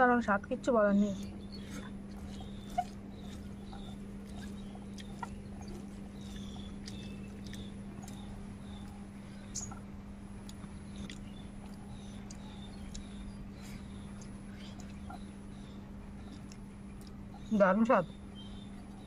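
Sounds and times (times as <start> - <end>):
steady low hum: 0.0 - 19.0
small bird chirping: 1.0 - 19.0.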